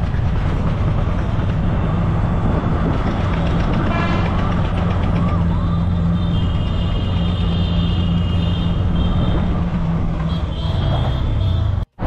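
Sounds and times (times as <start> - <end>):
rickshaw engine hum: 0.0 - 12.0
road noise: 0.0 - 12.0.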